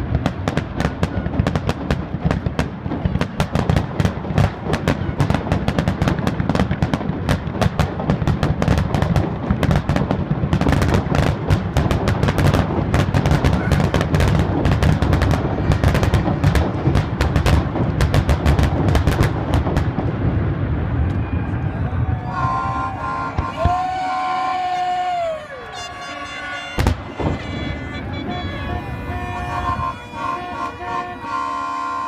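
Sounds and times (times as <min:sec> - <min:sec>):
fireworks bursts and crackle: 0:00.0 - 0:32.0.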